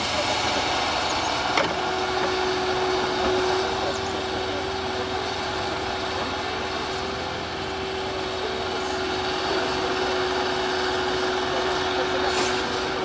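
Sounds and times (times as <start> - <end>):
continuous whine: 0.0 - 13.0
excavator engine running: 0.0 - 13.0.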